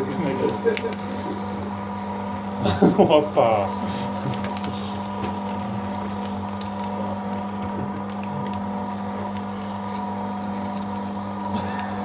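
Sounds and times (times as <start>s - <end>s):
paper shredder motor humming: 0.0s - 12.0s.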